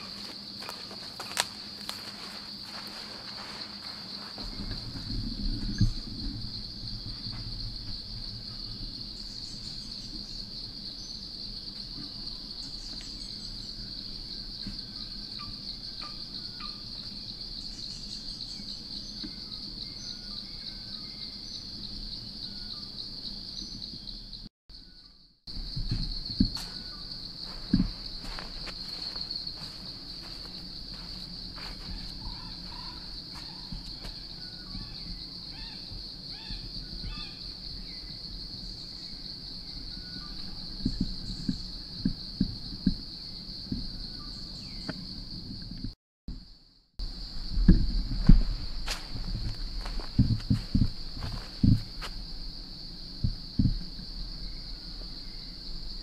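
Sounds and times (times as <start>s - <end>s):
insect chorus pulsing buzz: 0.0s - 56.0s.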